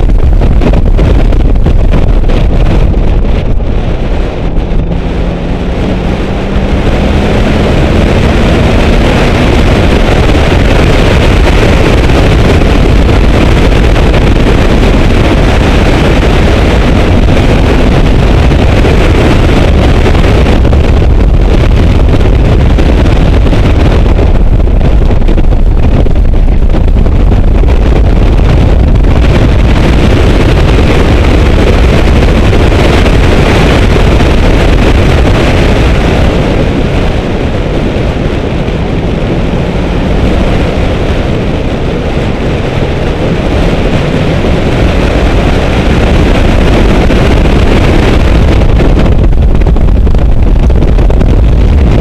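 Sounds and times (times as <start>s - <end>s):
car engine: 0.0s - 52.0s
road noise: 0.0s - 52.0s
wind buffeting on microphone: 0.0s - 52.0s.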